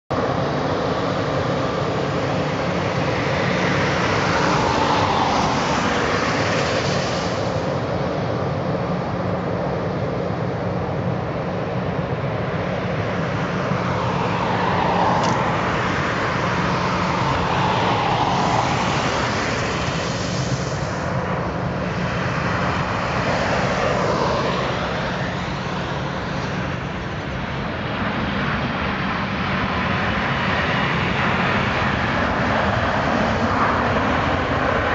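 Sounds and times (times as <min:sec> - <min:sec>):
jet engine roar and whine: 0:00.1 - 0:34.9.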